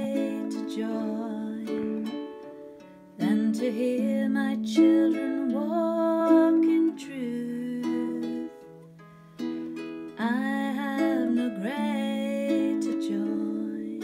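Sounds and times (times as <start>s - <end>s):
woman singing: 0.0s - 2.2s, 3.2s - 8.7s, 10.2s - 14.0s.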